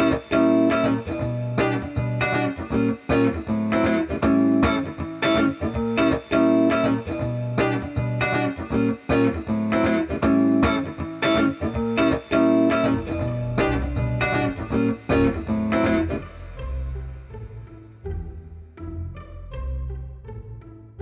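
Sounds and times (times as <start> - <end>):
plucked guitar music: 0.0 - 21.0.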